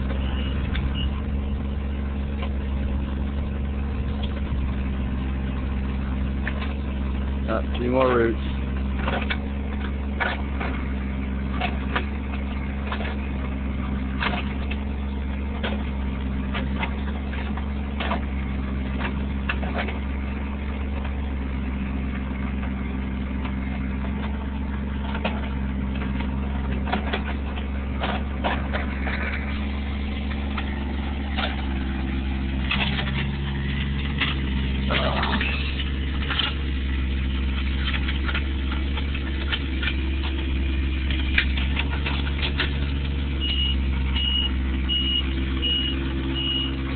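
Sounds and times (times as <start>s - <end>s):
excavator engine running: 0.0s - 46.9s
knocks and clanks of digging: 6.3s - 46.9s.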